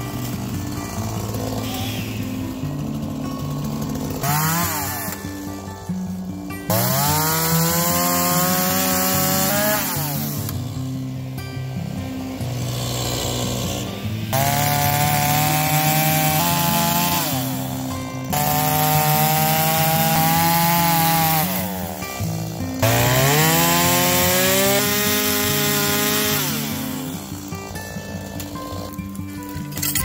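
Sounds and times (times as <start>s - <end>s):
chainsaw cutting tree trunk: 0.0s - 30.0s.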